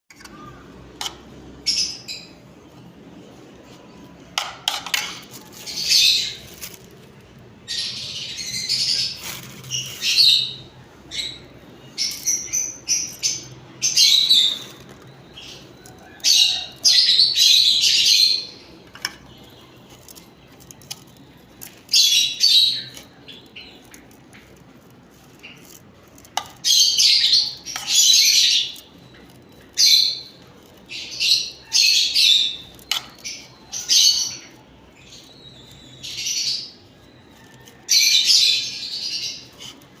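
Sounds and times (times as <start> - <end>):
lovebirds chattering and chirping: 0.1 - 40.0.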